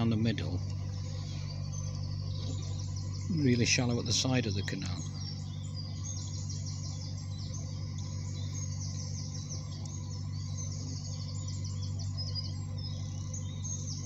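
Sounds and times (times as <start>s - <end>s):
boat engine droning: 0.0s - 14.0s
songbirds chirping: 0.0s - 14.0s.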